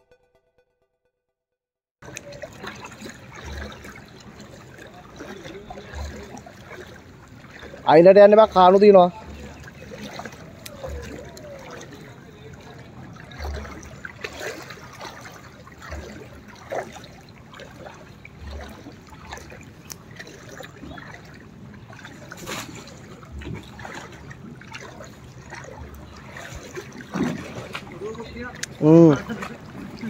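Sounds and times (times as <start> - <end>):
water sloshing and splashing: 2.0 - 30.0.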